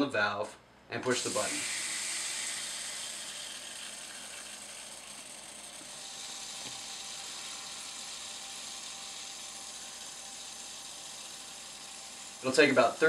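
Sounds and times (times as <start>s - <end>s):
gas cartridge hissing: 1.1s - 13.0s.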